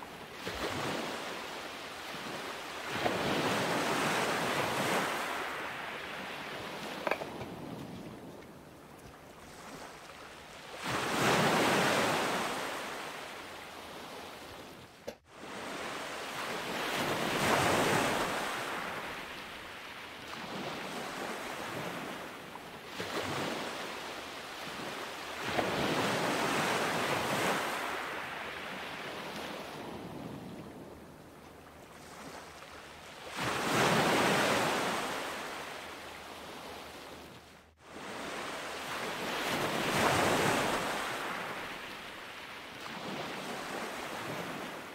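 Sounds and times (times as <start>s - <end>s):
ocean waves washing: 0.0s - 44.9s.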